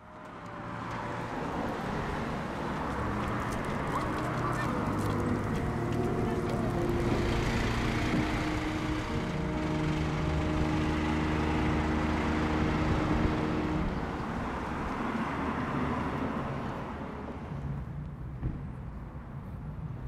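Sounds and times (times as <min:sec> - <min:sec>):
truck engine driving past: 0:00.0 - 0:17.8.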